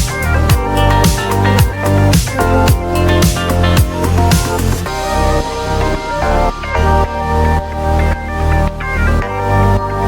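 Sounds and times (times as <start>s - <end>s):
music with bass-drum kicks: 0.0s - 10.0s.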